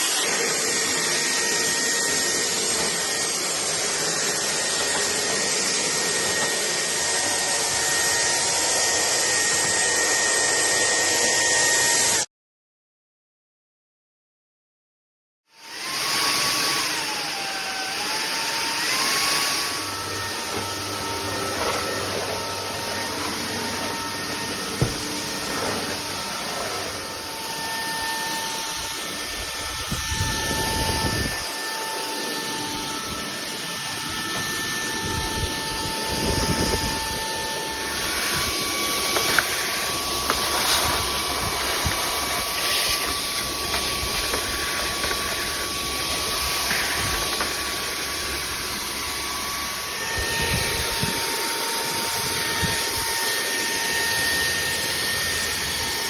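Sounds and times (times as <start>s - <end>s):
vacuum cleaner motor whine: 0.0s - 12.3s, 15.5s - 56.0s.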